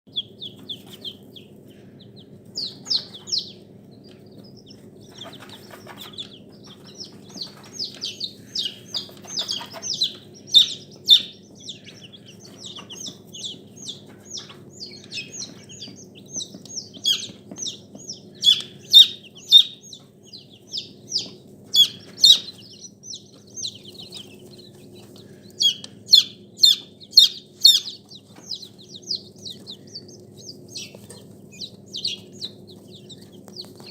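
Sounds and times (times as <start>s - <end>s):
poultry chirping and peeping: 0.1s - 33.9s.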